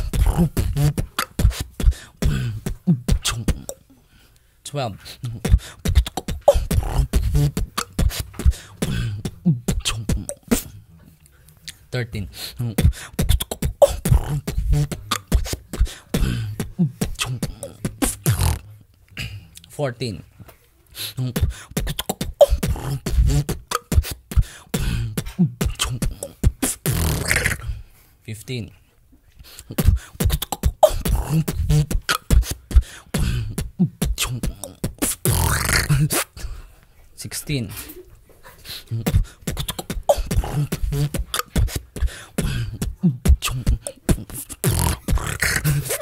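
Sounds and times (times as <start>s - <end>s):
person beatboxing: 0.0s - 3.9s, 4.7s - 10.9s, 11.7s - 20.2s, 21.0s - 27.8s, 29.4s - 36.6s, 37.2s - 46.0s
pitched vocal slides: 0.0s - 3.9s, 4.8s - 10.9s, 11.7s - 18.8s, 21.0s - 27.8s, 29.6s - 36.4s, 37.2s - 46.0s.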